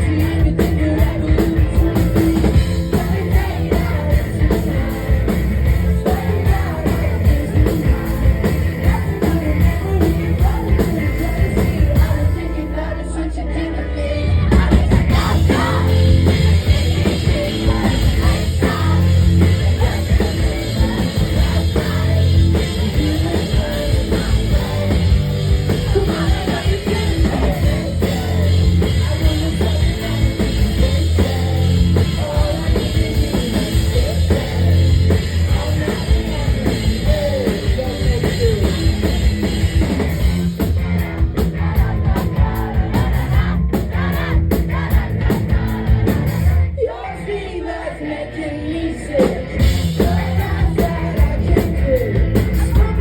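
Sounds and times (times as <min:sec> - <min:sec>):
drum kit beat: 0:00.0 - 0:12.4, 0:14.5 - 0:46.7, 0:49.2 - 0:53.0
live rock band playing: 0:00.0 - 0:46.8, 0:49.0 - 0:53.0
person singing lead vocal: 0:00.0 - 0:53.0.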